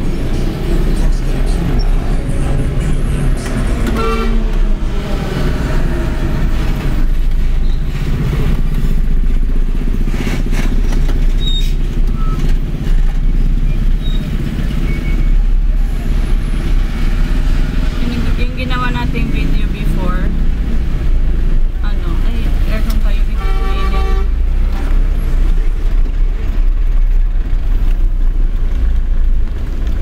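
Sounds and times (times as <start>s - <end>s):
surrounding traffic: 0.0s - 30.0s
vehicle engine and road noise: 0.0s - 30.0s.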